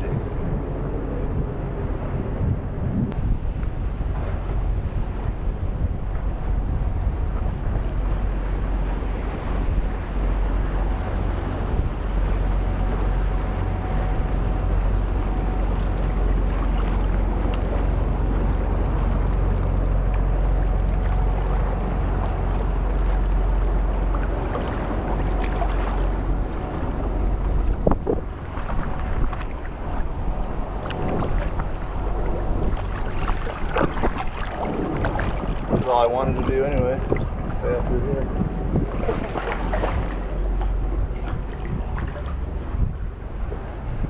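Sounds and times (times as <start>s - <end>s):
water splashing around a kayak: 0.0s - 44.0s
wind buffeting the microphone: 0.0s - 44.0s.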